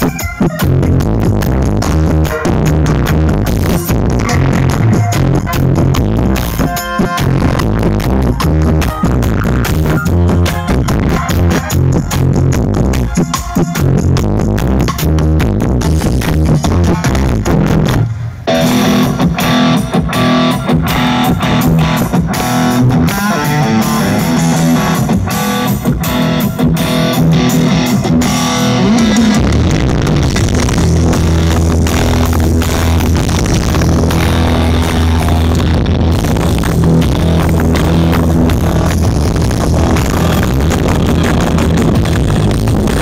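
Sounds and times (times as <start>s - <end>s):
loud music with guitar and bass: 0.0s - 43.0s.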